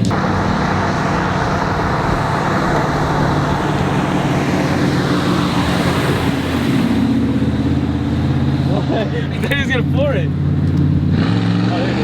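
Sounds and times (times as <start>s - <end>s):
car engine passing by: 0.0s - 12.0s.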